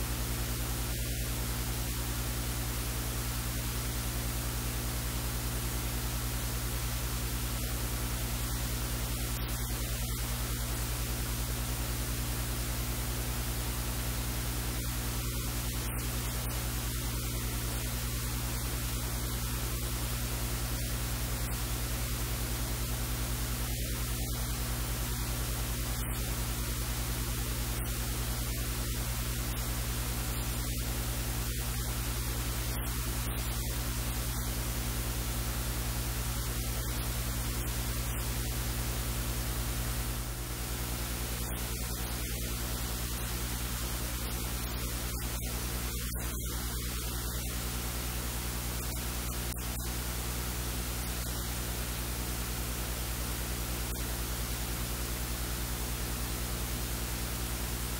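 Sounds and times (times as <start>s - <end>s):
electrical hiss: 0.0s - 57.9s
low mains hum: 0.0s - 57.9s.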